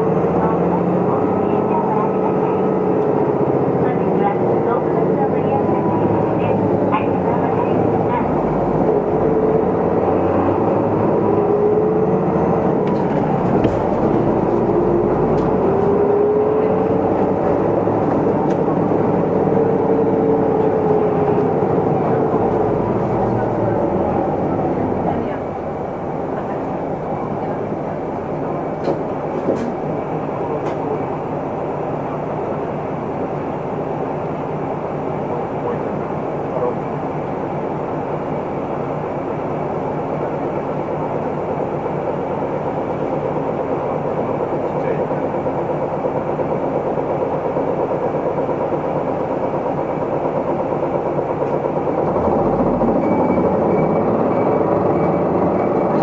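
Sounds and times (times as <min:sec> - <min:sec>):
road noise: 0:00.0 - 0:46.4, 0:50.0 - 0:56.0
bus diesel engine hum: 0:00.0 - 0:56.0.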